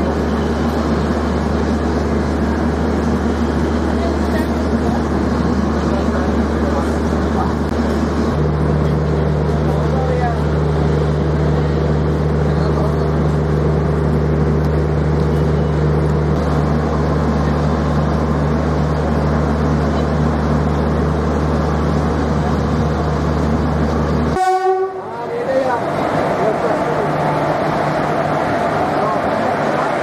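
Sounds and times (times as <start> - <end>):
low train machine hum: 0.0 - 30.0
noisy platform background: 0.0 - 30.0.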